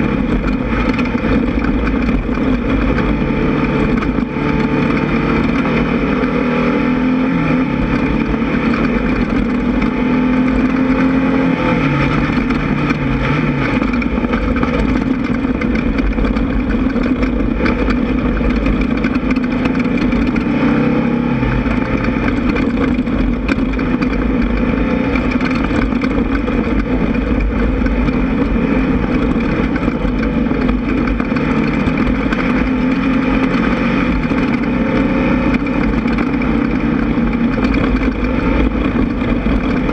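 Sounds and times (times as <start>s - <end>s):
buggy engine revving: 0.0s - 39.9s.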